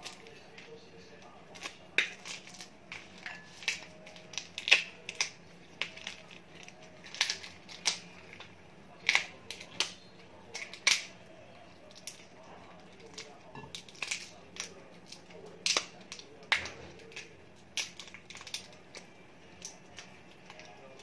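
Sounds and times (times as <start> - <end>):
shrimp shells cracking: 1.4 - 11.2, 11.8 - 21.0.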